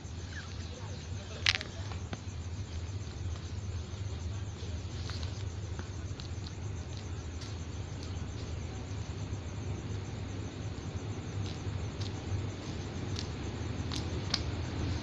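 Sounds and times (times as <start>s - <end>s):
diesel locomotive drone: 0.0s - 15.0s
faint insect chirps: 0.0s - 15.0s.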